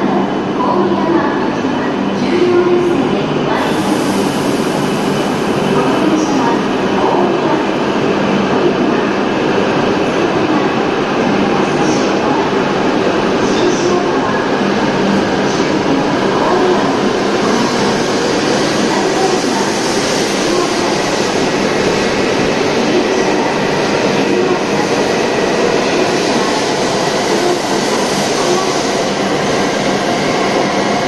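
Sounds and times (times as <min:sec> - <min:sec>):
train rushing past in station: 0:00.0 - 0:31.0.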